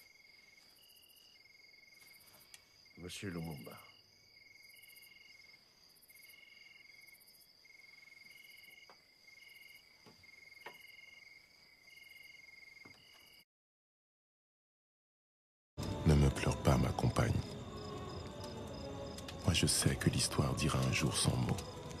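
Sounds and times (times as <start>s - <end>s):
crickets trilling: 0.0s - 13.4s, 15.8s - 22.0s.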